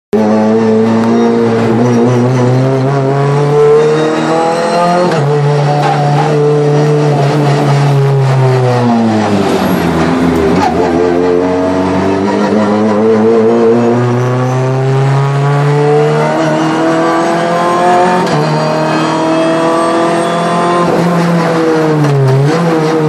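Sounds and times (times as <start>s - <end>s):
race car engine from inside cabin: 0.2s - 23.0s.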